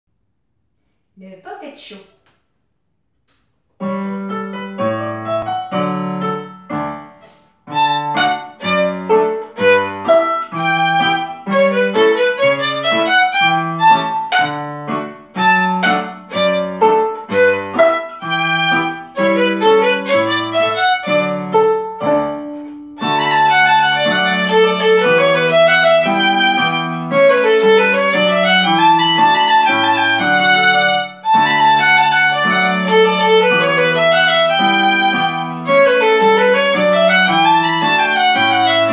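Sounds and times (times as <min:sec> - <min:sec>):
piano accompaniment: 0:03.7 - 0:38.9
violin playing lively melody: 0:07.7 - 0:38.9.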